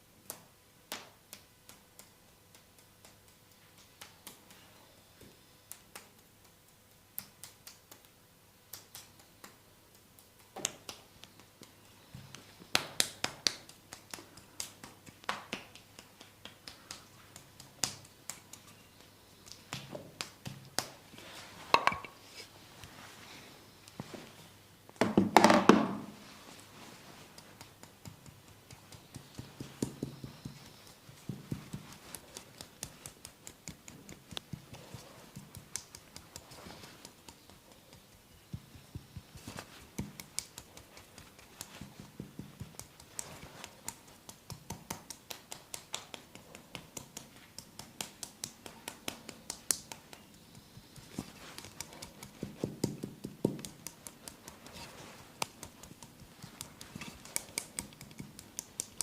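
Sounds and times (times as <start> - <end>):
hands clicking and tapping on skin: 0.2 - 4.7, 5.6 - 21.1, 27.1 - 59.0.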